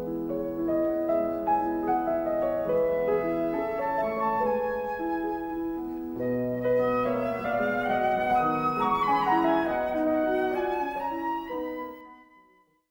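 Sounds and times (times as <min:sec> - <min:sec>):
piano accompaniment: 0:00.0 - 0:12.4
flute-like melody: 0:00.0 - 0:12.8.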